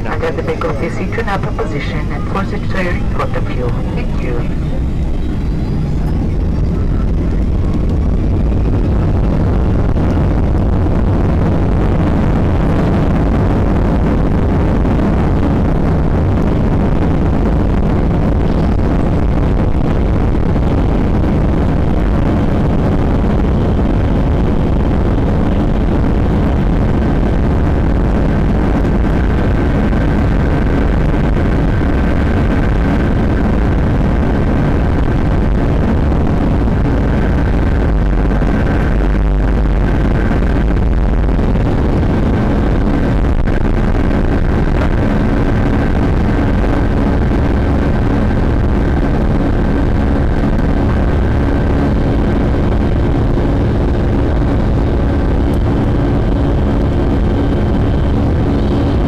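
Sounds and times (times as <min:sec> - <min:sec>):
jet engines roaring: 0:00.0 - 0:59.0
rising whine: 0:00.0 - 0:59.0.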